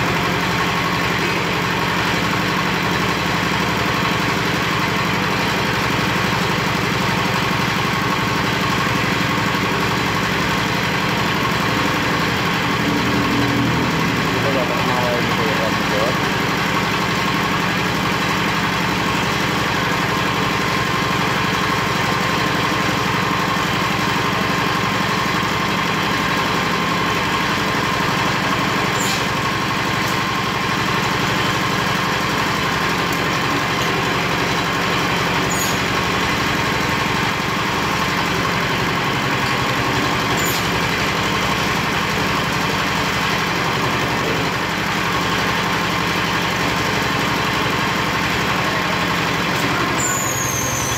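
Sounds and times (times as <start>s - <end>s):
hoist engine running: 0.0s - 50.9s.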